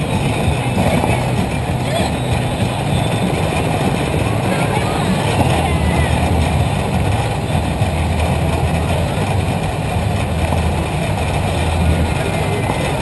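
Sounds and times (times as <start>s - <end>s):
robot rolling on asphalt: 0.0s - 13.0s.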